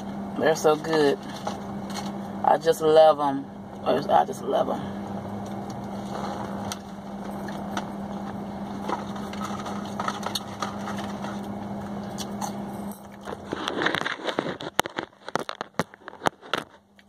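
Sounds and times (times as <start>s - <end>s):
car cabin hum: 0.0s - 16.7s.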